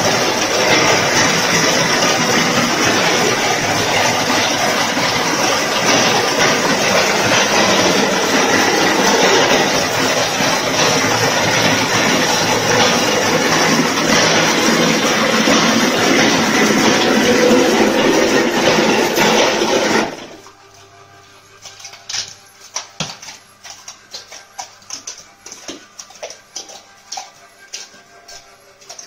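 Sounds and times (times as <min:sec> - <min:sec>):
plastering machine running: 0:00.0 - 0:29.0.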